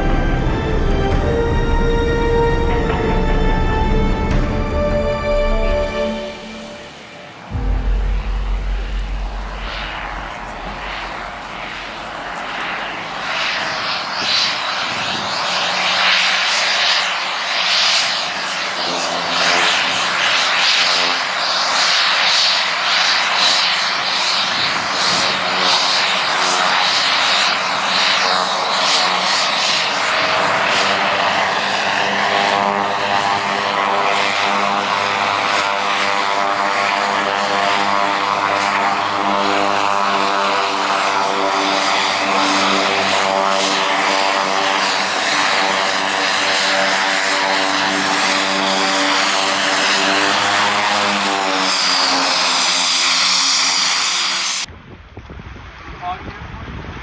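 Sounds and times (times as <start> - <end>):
floatplane engine and propeller: 0.0 - 57.0.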